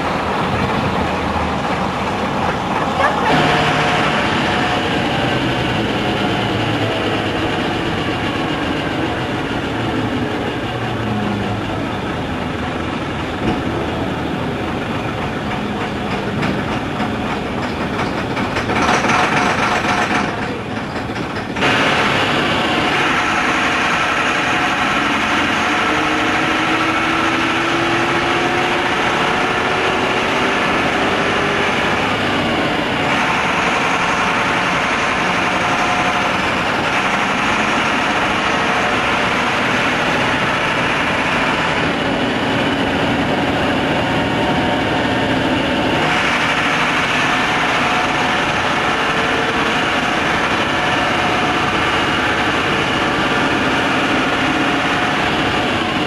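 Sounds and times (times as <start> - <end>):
bus engine: 0.0 - 56.0
road noise: 0.0 - 56.0.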